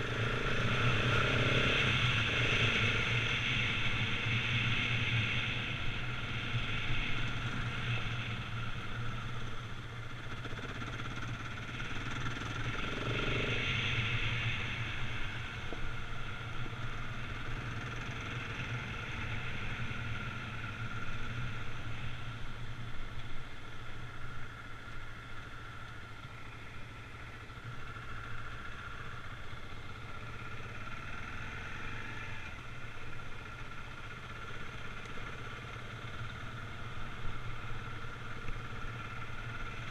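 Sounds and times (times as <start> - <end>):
motorcycle engine running at low revs: 0.0 - 39.9.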